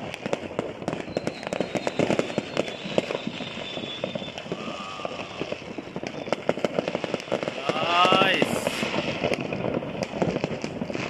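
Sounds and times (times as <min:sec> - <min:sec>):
fireworks popping and banging: 0:00.0 - 0:11.0.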